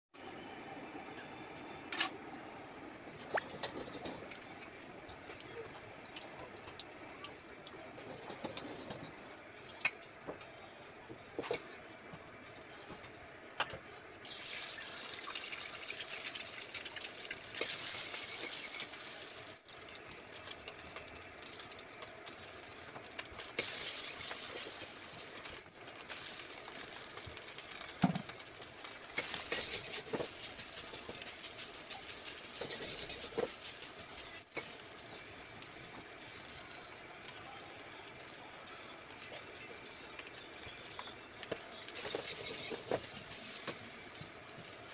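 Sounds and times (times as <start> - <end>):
oil and egg sizzling: 0.2 - 10.5, 14.1 - 44.9.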